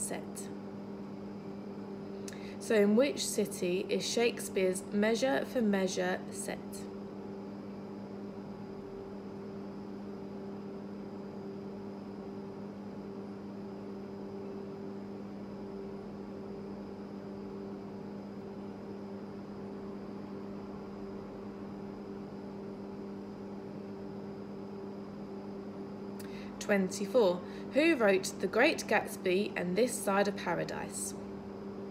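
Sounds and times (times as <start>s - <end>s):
faint high whine: 0.0s - 31.9s
low electrical hum: 0.0s - 31.9s.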